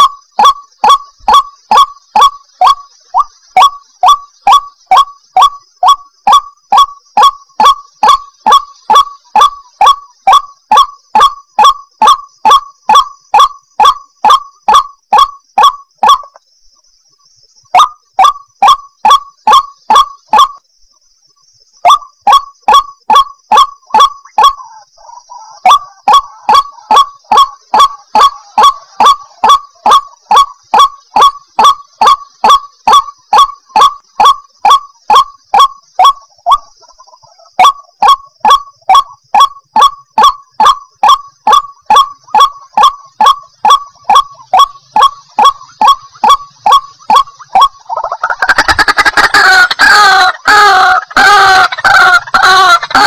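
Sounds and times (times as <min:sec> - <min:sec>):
waterhen calling: 0:00.0 - 0:16.4, 0:17.8 - 0:20.6, 0:21.8 - 0:53.0.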